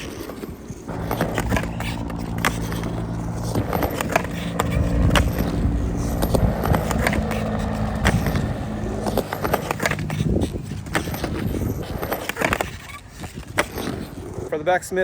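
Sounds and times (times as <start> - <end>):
skateboard wheels rolling on ramp: 0.0 - 14.5.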